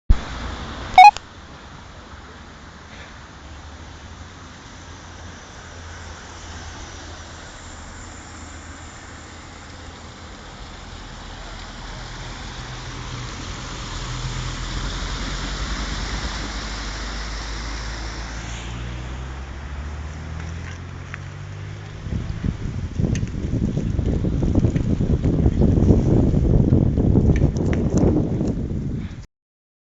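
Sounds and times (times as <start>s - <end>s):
water splashing and tyre hiss: 0.1s - 27.4s.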